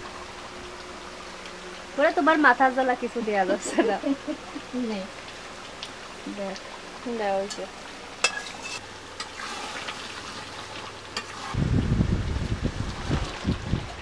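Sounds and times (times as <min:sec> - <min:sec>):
food frying in a wok: 0:00.0 - 0:14.0.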